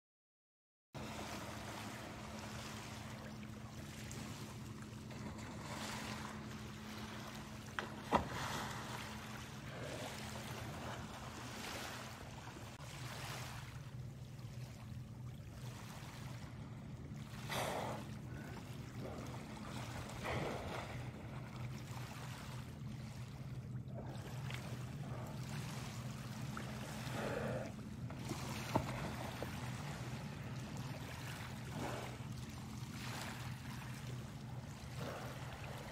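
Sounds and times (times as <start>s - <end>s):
steady low hum: 1.0s - 35.9s.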